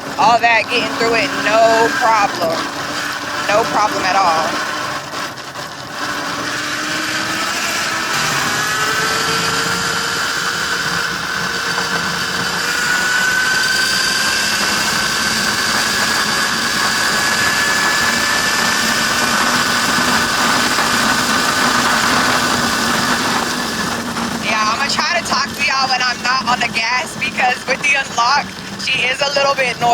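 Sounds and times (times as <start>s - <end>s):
electric motor whining: 0.0s - 29.9s.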